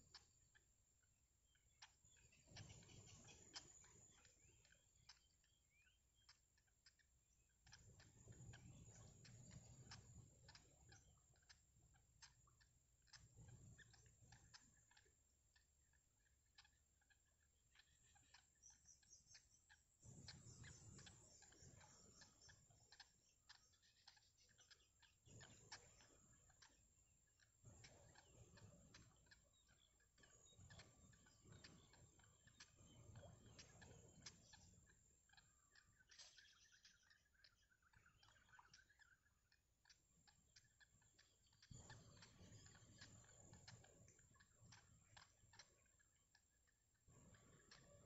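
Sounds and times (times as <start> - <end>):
chicks chirping: 0.0 - 0.8, 1.4 - 48.0.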